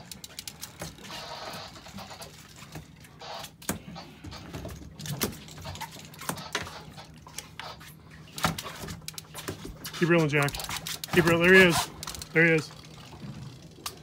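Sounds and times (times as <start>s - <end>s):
fishing reel clicking and rattling: 0.0s - 3.5s, 5.1s - 14.0s.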